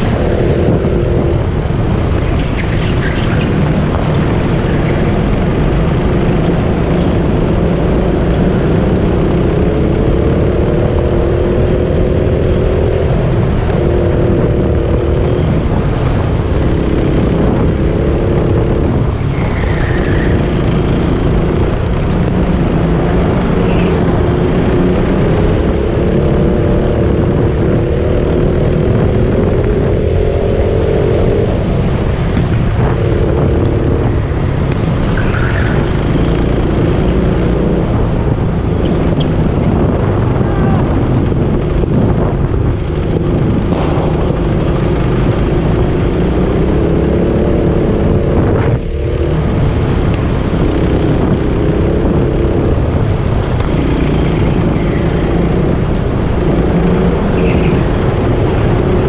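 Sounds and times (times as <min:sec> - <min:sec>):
heavy low rumble: 0:00.0 - 0:19.5, 0:20.3 - 0:59.0
go-kart engine revving: 0:00.0 - 0:59.0.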